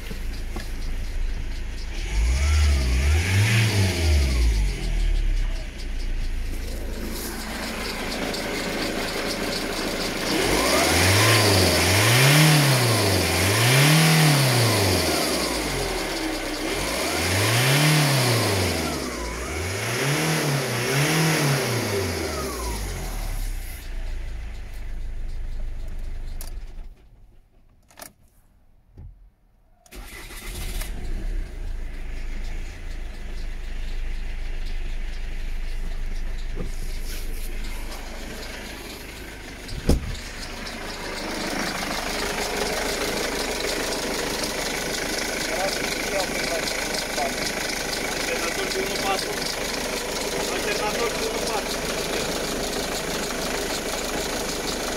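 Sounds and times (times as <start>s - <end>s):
diesel engine revving and idling: 0.0s - 26.9s, 29.9s - 54.9s.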